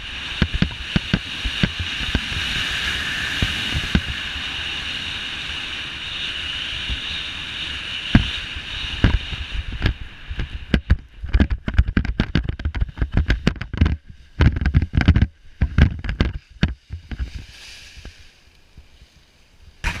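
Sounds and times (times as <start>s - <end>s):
air rushing over microphone: 0.0s - 19.0s
wind buffeting: 0.0s - 19.1s.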